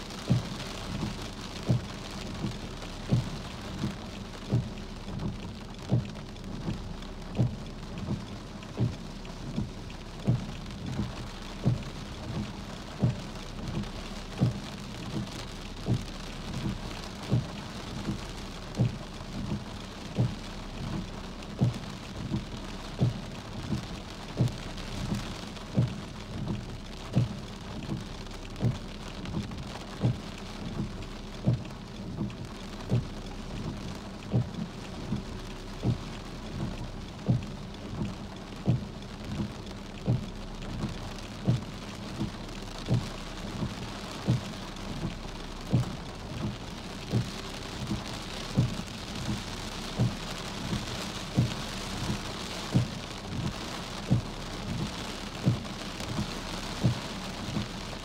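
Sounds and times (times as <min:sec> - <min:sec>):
regular low thump: 0:00.0 - 0:58.0
steady rain falling: 0:00.0 - 0:58.0.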